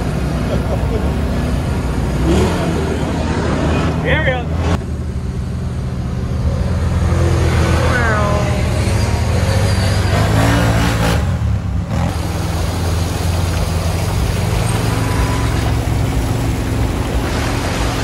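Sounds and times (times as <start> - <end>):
atv engine droning: 0.0 - 18.0.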